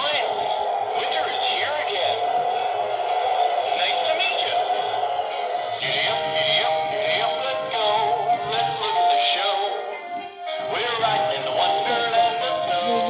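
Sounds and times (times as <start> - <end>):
toy playing electronic song: 0.0 - 13.0.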